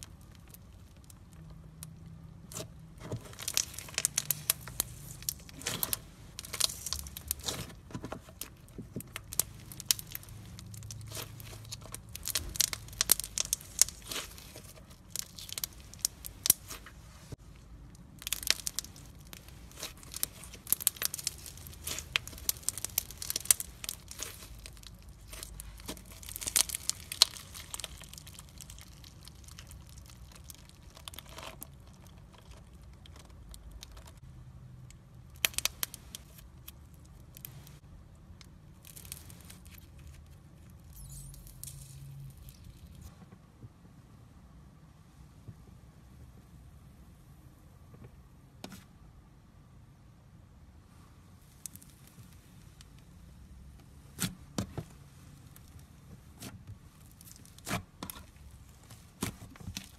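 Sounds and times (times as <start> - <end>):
slime crackling and popping: 0.0 - 34.2, 35.2 - 43.1, 51.4 - 53.2, 55.4 - 59.9.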